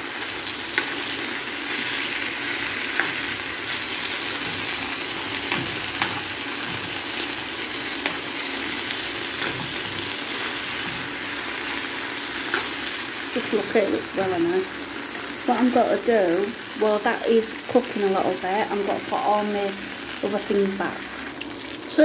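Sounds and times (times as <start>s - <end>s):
chicken sizzling in a frying pan: 0.0s - 22.0s.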